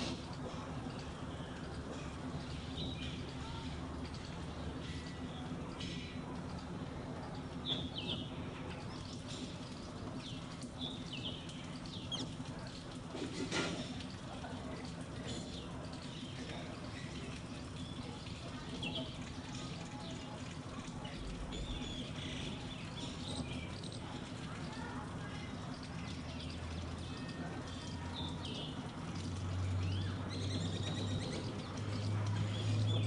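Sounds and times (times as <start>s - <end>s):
birds chirping: 0.0s - 33.0s
water trickling from a tap: 0.0s - 33.0s.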